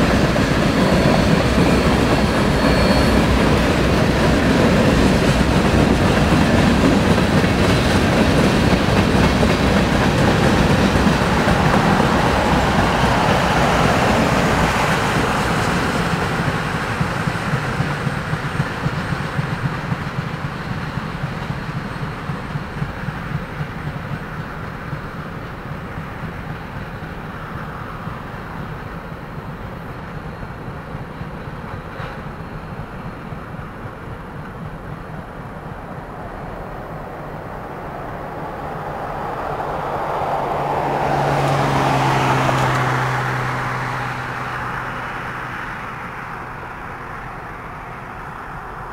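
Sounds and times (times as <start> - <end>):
freight train rolling by: 0.0 - 48.9.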